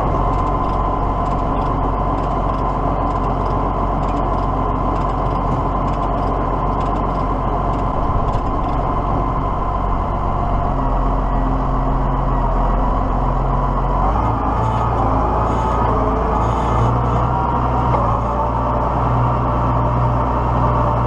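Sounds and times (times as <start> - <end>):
steady whine: 0.0 - 21.0
tractor engine running: 0.0 - 21.0.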